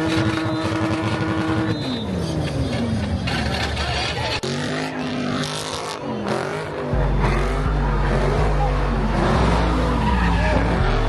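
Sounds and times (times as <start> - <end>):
car engine revving: 0.0 - 11.0
crowd voices: 0.0 - 11.0.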